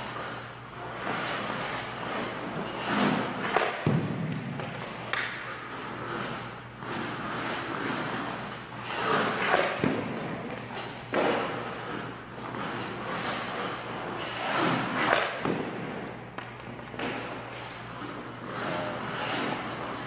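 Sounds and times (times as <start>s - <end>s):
skate blades scraping ice: 0.0s - 20.0s
hockey pucks hitting pads: 0.8s - 20.0s.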